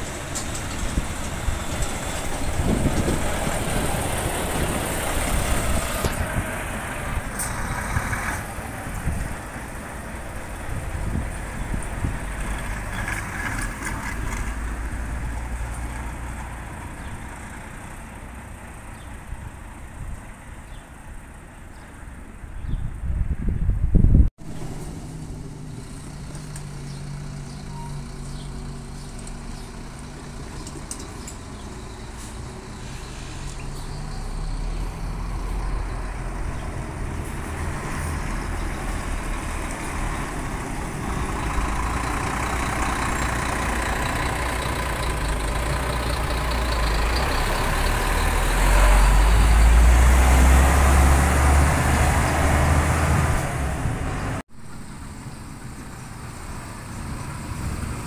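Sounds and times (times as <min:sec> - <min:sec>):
bus diesel engine accelerating: 0:00.0 - 0:58.0.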